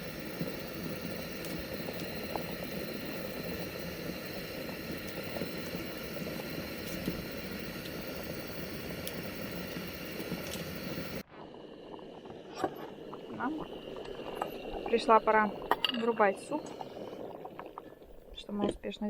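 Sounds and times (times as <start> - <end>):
soup bubbling in a pot: 0.0 - 18.6.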